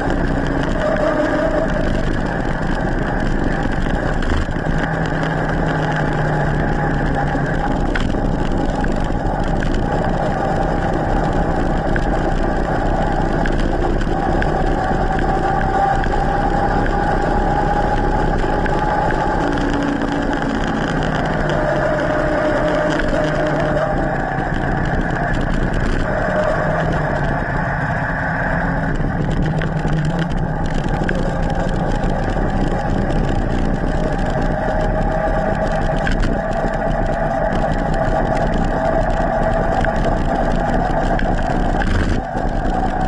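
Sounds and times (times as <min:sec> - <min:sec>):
bike road noise: 0:00.0 - 0:43.0
wind rushing: 0:00.0 - 0:43.0.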